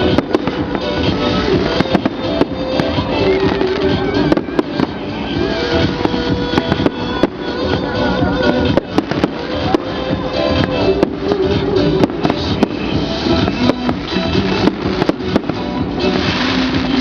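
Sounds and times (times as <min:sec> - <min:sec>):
fireworks cracking and banging: 0:00.0 - 0:17.0
melodic music: 0:00.0 - 0:17.0.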